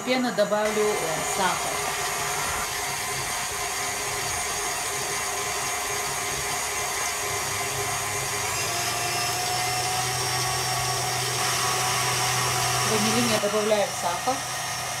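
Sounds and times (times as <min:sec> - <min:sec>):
stand mixer motor whir: 0:00.0 - 0:15.0.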